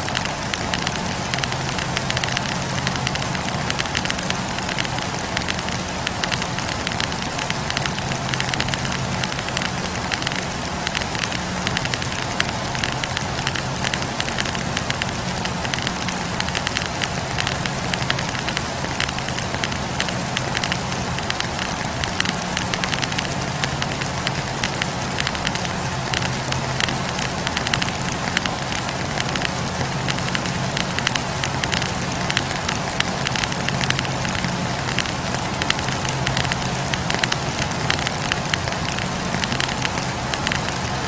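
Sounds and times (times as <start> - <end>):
campfire logs crackling: 0.0 - 41.0.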